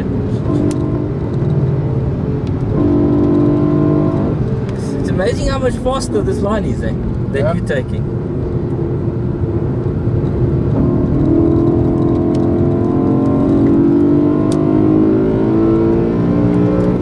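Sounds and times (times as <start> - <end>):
car engine accelerating: 0.0 - 17.0
tyre and road rumble: 0.0 - 17.0.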